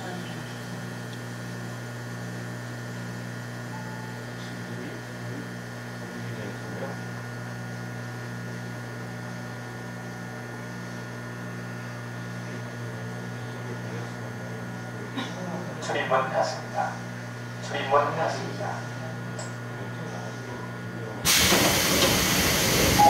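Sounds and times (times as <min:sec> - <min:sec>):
subway car electrical hum: 0:00.0 - 0:23.0.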